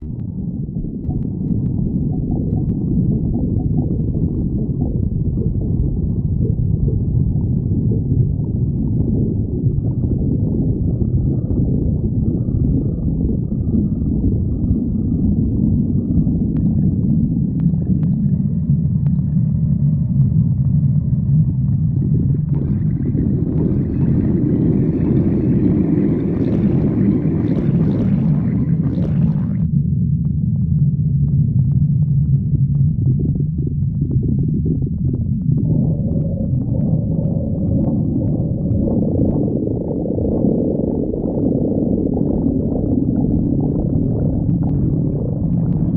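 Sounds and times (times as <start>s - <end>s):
stomach growling: 0.0s - 45.9s.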